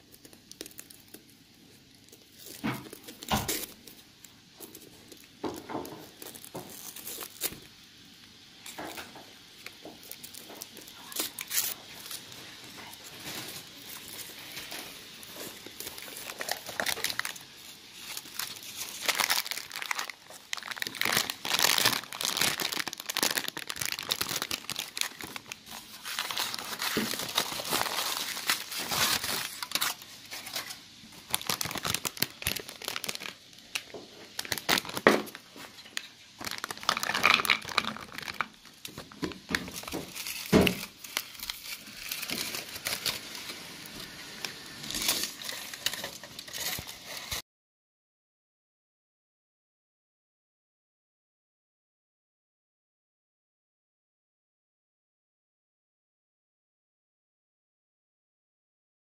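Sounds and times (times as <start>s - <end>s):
cellophane bag crackling: 0.0s - 47.4s
foil crinkling and tearing: 0.0s - 47.4s.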